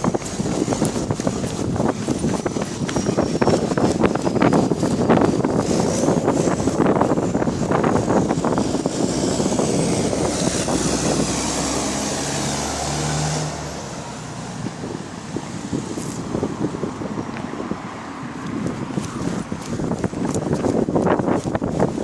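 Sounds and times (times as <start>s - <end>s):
bus engine with leaking exhaust: 0.0s - 22.0s.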